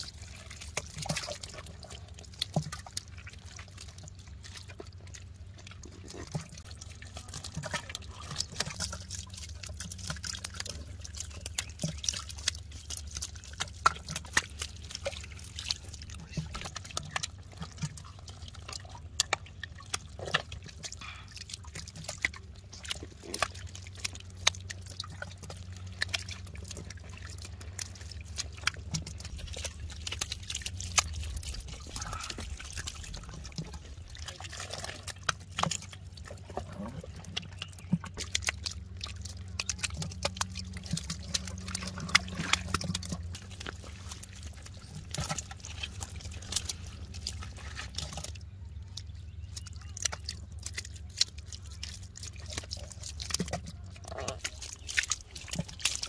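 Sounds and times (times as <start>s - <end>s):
steady low hum: 0.0s - 54.5s
fish splashing in water: 0.0s - 56.0s
shallow water trickling and dripping: 0.0s - 56.0s.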